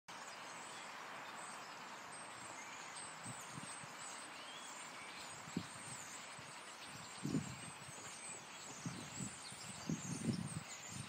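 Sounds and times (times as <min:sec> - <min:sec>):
flock of birds calling: 0:00.2 - 0:11.0.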